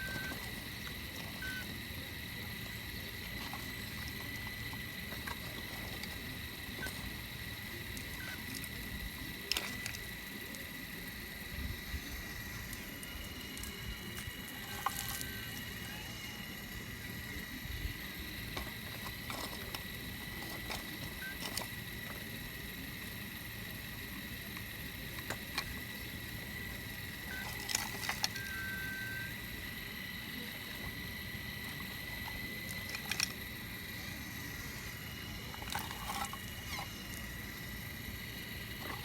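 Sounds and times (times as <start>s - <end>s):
digging machine rumbling: 0.0s - 39.0s
high machine whine: 0.0s - 39.0s.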